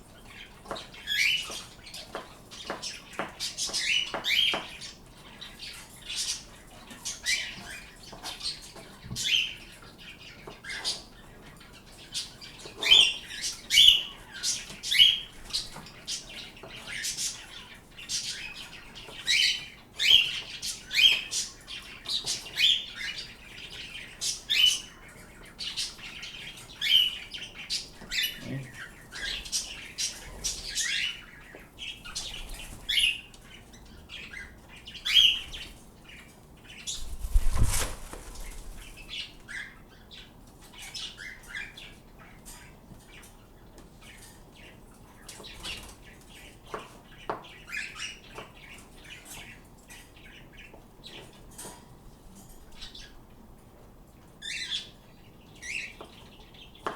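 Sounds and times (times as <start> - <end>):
pet birds chirping: 0.0 - 56.9.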